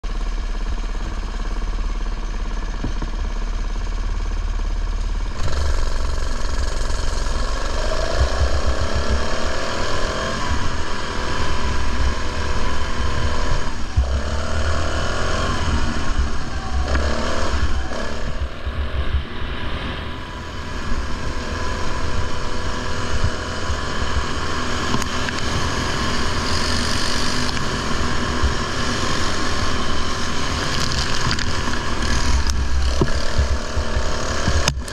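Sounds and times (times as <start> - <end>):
lawn mower engine running hard: 0.0 - 34.9.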